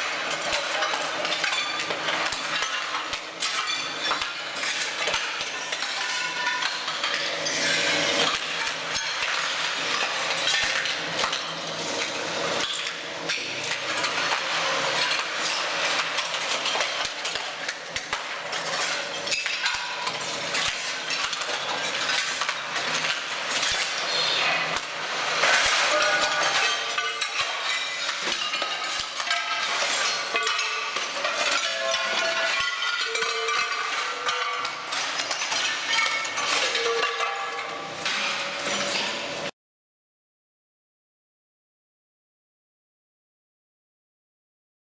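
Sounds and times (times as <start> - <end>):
ceramic tiles cracking and clinking: 0.0 - 39.1.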